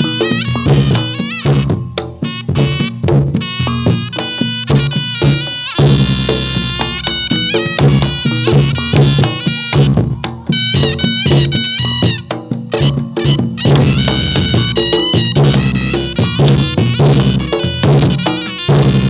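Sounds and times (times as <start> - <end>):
drum strokes: 0.0 - 19.0
shrill double-reed melody: 0.0 - 19.0.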